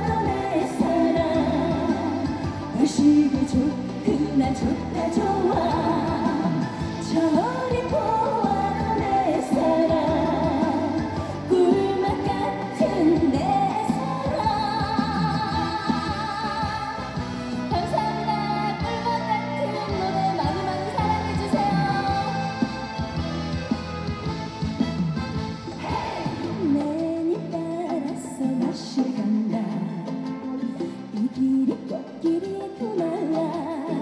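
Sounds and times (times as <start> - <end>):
woman singing into microphone: 0.0 - 23.0, 25.9 - 34.0
instrumental backing: 0.0 - 34.0.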